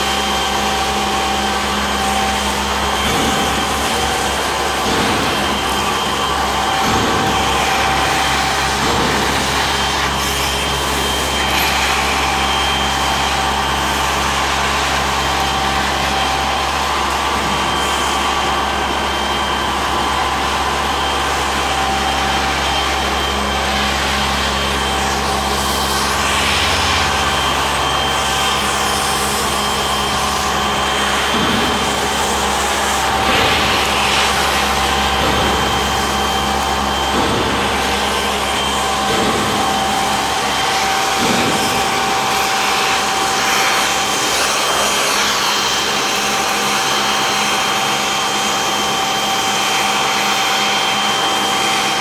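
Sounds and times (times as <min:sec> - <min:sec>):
suction machine running: 0:00.0 - 0:52.0.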